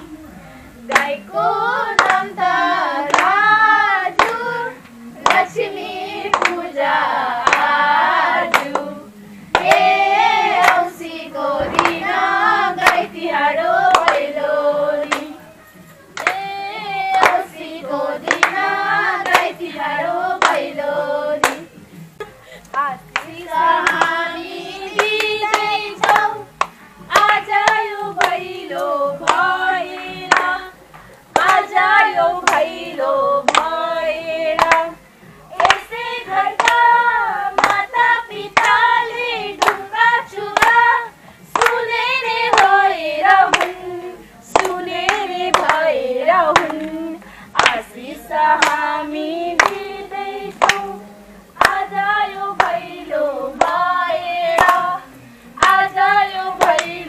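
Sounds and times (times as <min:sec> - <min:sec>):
women singing: 0:00.0 - 0:57.0
hands clapping in a steady beat: 0:00.9 - 0:15.4, 0:16.1 - 0:20.8, 0:21.4 - 0:57.0.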